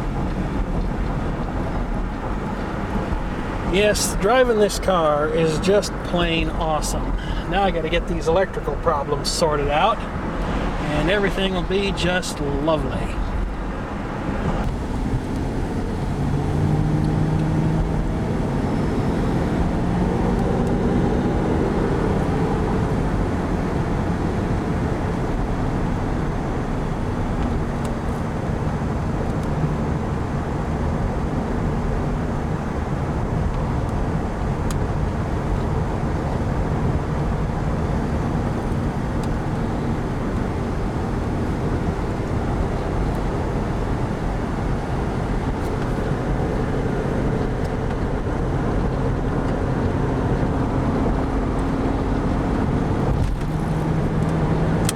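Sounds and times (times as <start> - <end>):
car engine accelerating: 0.0 - 54.9
road and tyre noise: 0.0 - 54.9.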